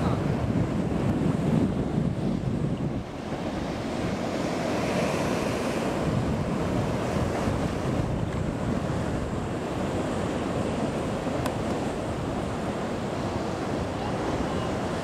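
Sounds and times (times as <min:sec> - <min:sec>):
surf breaking on rocks: 0:00.0 - 0:15.0
wind buffeting microphone: 0:00.0 - 0:15.0.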